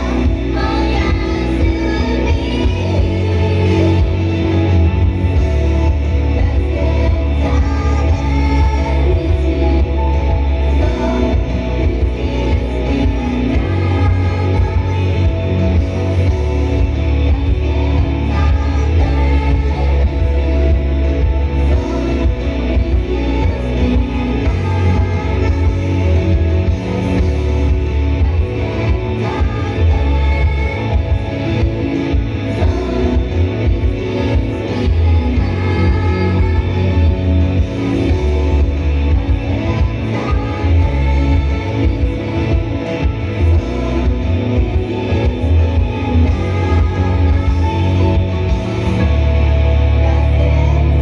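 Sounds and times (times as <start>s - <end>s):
pop-rock band music: 0.0s - 51.0s
singing: 0.0s - 51.0s.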